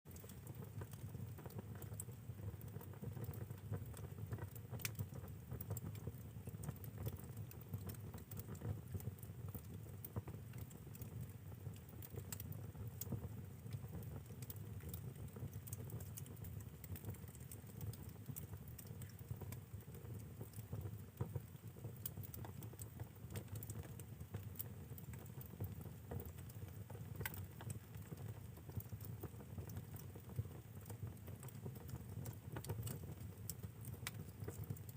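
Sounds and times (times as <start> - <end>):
fire crackling and popping: 0.1 - 34.9
low rumble of flame: 0.1 - 34.9.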